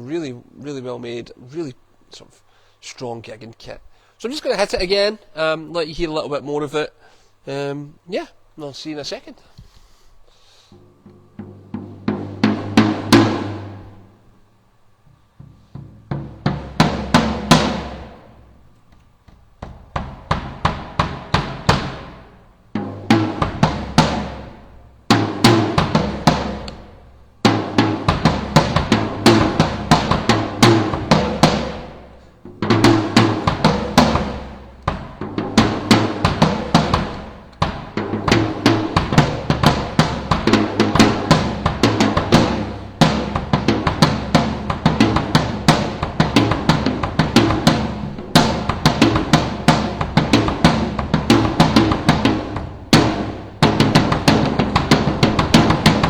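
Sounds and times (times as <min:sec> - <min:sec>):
drum kit grooves and fills: 0:00.0 - 0:56.0.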